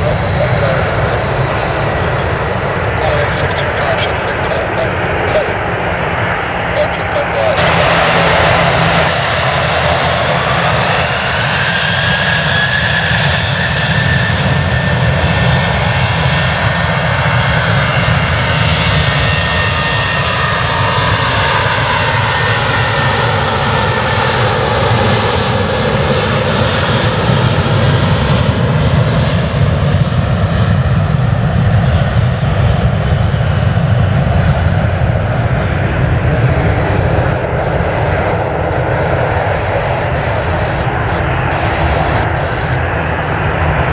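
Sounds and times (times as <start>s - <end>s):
jet airliner taking off: 0.0s - 43.9s.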